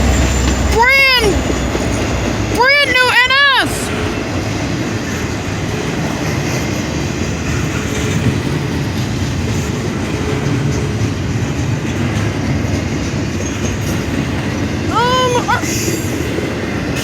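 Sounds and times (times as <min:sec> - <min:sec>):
freight train wheels rumbling on rails: 0:00.0 - 0:17.0
train wheels clickety-clack: 0:00.0 - 0:17.0.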